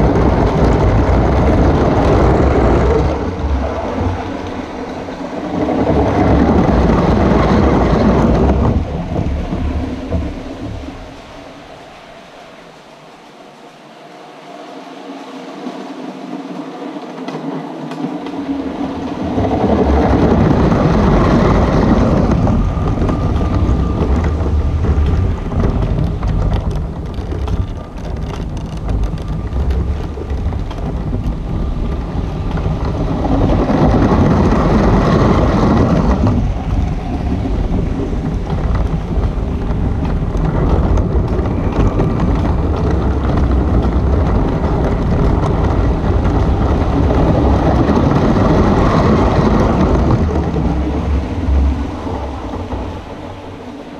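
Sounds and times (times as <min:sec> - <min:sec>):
toy train wheels rumbling on track: 0:00.0 - 0:12.2, 0:16.1 - 0:53.9.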